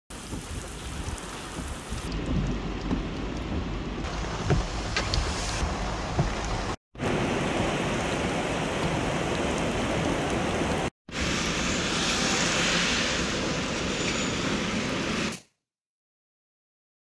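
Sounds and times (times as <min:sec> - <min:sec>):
running water: 0:00.1 - 0:14.4
heavy rain on pavement: 0:00.1 - 0:15.3.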